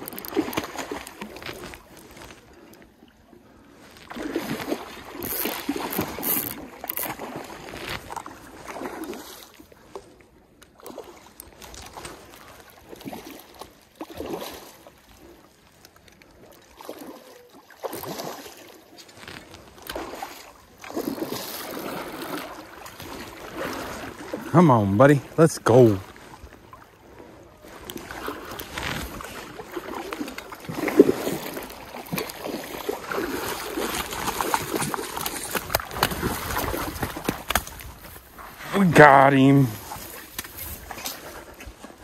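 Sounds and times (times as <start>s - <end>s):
stream water splashing: 0.0s - 42.0s.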